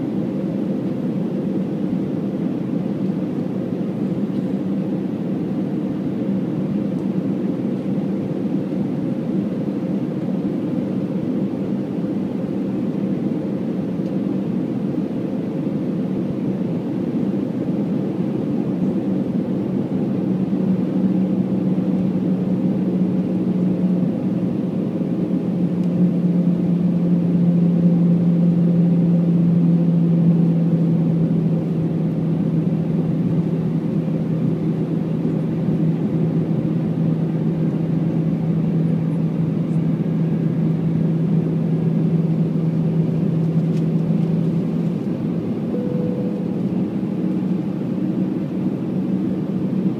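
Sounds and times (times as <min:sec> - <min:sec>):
airplane cabin roar: 0:00.0 - 0:49.9
low engine hum: 0:00.0 - 0:49.9.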